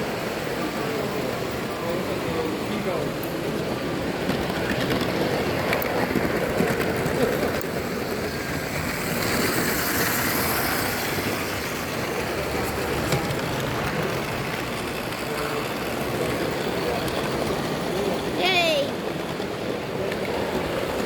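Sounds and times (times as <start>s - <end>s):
light clicks of train: 0.0s - 21.0s
miniature train rail noise: 0.0s - 21.0s.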